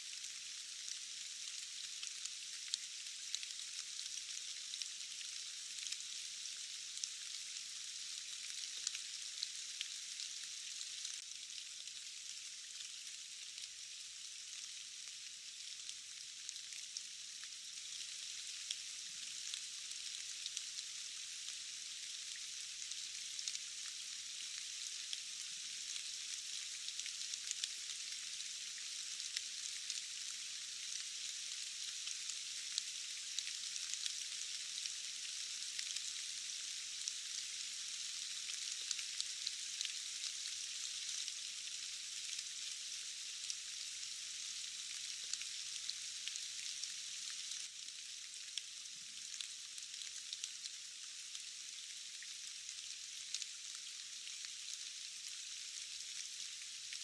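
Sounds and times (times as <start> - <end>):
steady rain falling: 0.0 - 13.9, 14.5 - 57.0.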